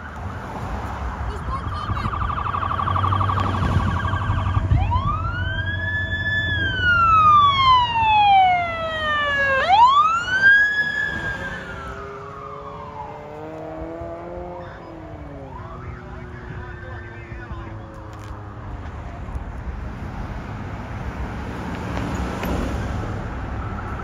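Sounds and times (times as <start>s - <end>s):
police siren warbling and wailing: 0.0s - 18.8s, 23.4s - 24.0s.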